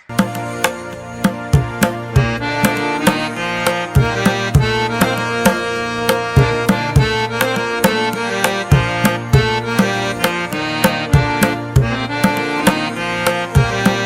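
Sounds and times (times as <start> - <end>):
reed instrument chords: 0.0 - 14.0
tabla drumming: 0.1 - 14.0.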